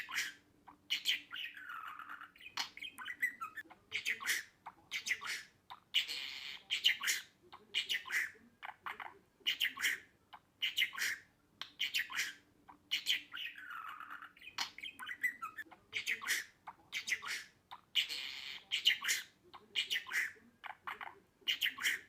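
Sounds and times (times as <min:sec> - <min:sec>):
budgerigar chattering: 0:00.0 - 0:22.0.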